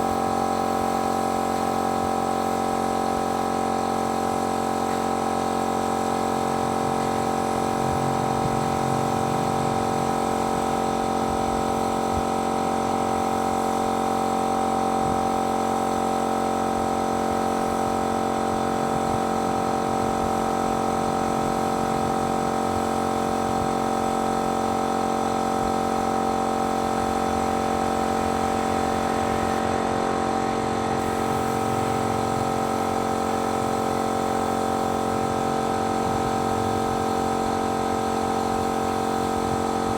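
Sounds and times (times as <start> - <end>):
paint spraying machine humming: 0.0 - 39.9.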